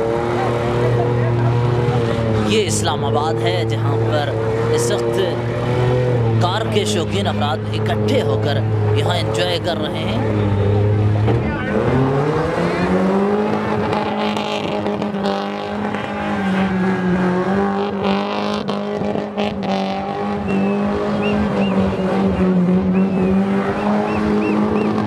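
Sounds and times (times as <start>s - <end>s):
car engine revving high: 0.0s - 25.0s.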